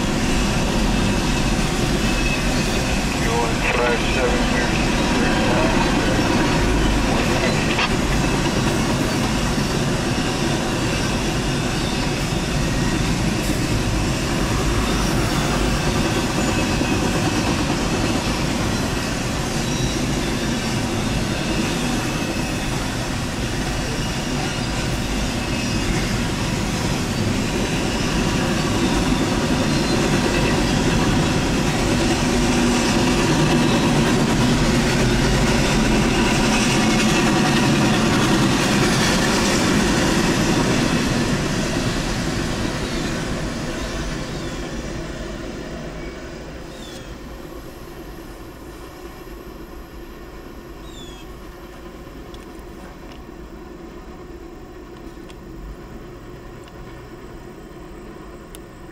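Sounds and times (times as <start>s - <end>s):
freight train wheels on rail: 0.0s - 58.9s.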